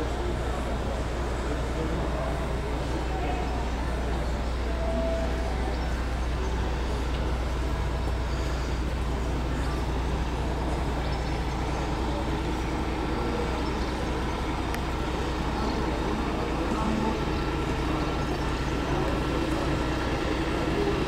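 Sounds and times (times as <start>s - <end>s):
diesel engine idling: 0.0s - 21.0s
outdoor background hum: 0.0s - 21.0s.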